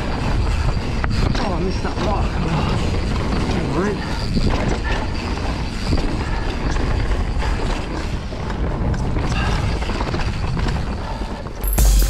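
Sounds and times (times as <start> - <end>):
wind rumble on microphone: 0.0 - 11.6
bike rattling and knocking: 0.0 - 11.7.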